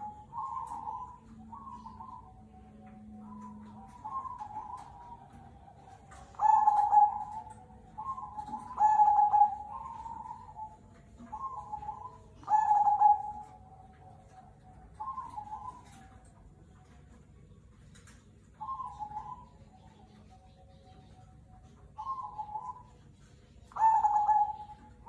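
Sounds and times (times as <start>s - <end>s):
doves cooing: 0.0s - 17.6s, 18.2s - 25.0s.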